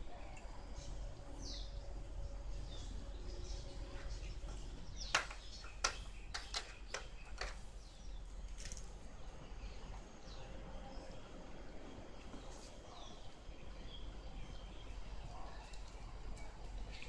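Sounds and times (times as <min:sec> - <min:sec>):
outdoor background: 0:00.0 - 0:17.0.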